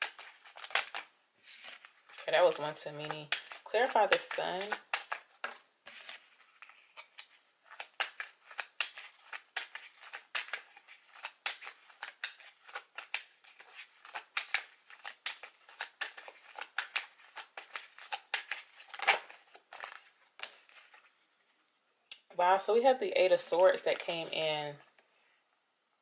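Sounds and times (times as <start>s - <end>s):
cards being shuffled: 0.0s - 21.2s.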